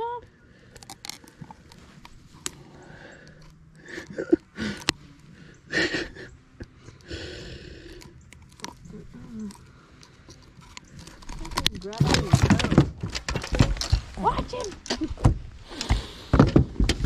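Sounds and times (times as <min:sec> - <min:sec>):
rustling: 0:00.5 - 0:05.7, 0:07.6 - 0:17.0.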